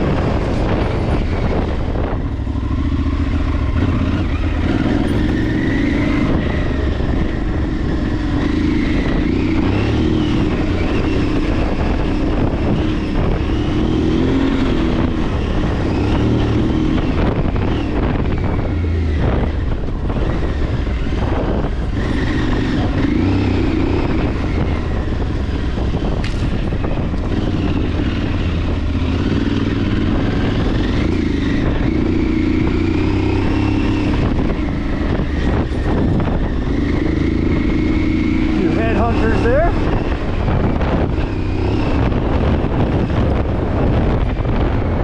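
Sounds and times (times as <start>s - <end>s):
motorcycle engine running: 0.0s - 45.0s
wind noise on microphone: 0.0s - 45.0s.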